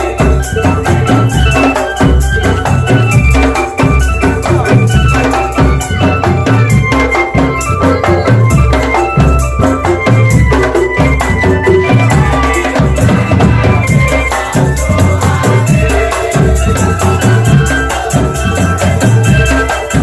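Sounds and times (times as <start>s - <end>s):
drum band music: 0.0s - 20.0s.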